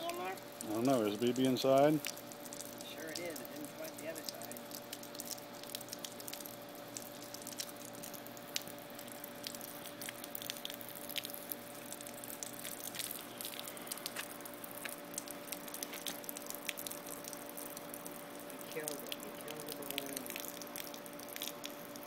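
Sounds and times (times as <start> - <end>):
faint steady hum: 0.0 - 22.0
water dripping and trickling: 0.0 - 22.0.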